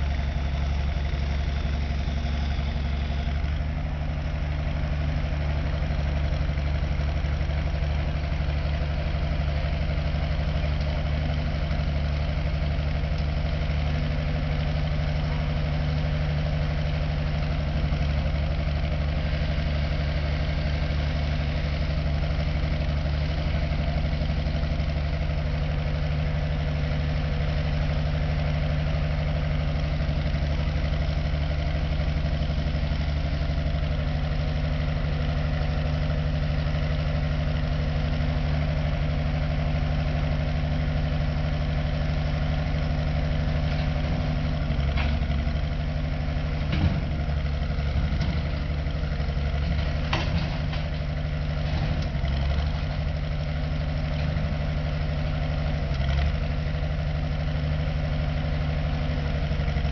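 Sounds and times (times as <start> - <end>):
crane engine droning: 0.0 - 54.7.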